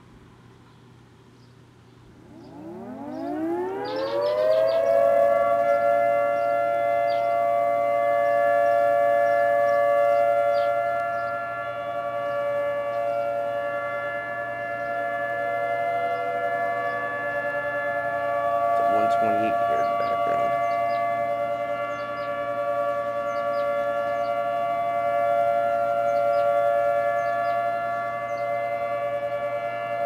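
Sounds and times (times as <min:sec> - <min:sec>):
tornado sirens wailing: 0:02.1 - 0:30.0.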